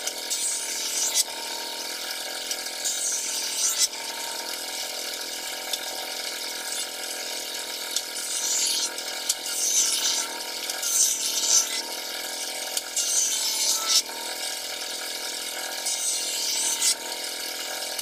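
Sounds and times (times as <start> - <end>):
electric drill boring into wood: 0.0 - 18.0
steady mechanical hum: 0.0 - 18.0.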